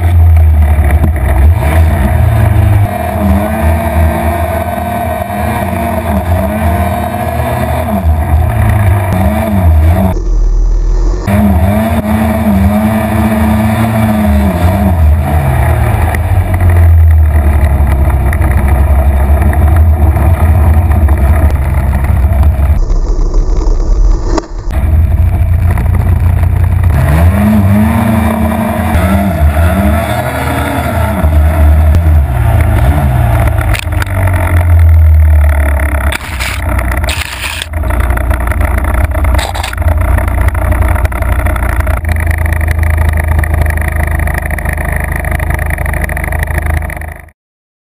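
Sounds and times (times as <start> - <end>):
snowmobile engine revving: 0.0 - 47.2.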